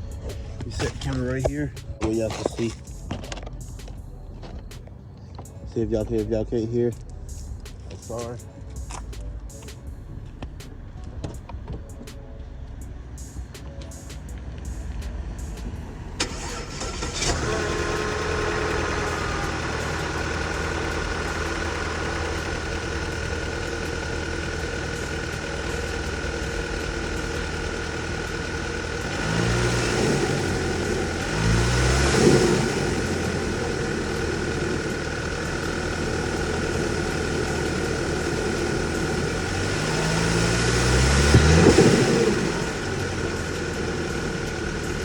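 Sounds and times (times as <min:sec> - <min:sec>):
car engine idling and revving: 0:00.0 - 0:45.0
steady high whine: 0:00.0 - 0:45.0.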